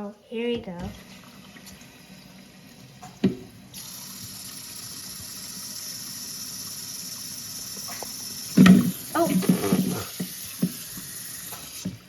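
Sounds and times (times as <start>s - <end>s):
water running from a valve: 0.7s - 12.0s.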